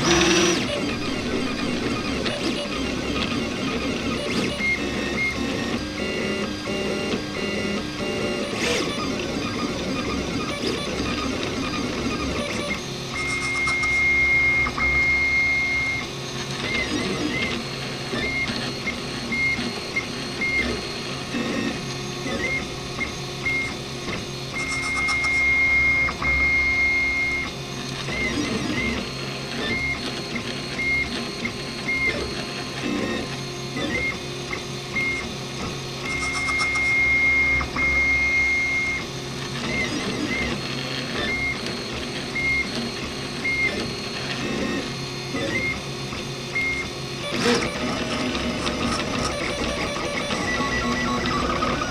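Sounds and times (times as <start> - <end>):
printer stepper motors whining: 0.0 - 51.9.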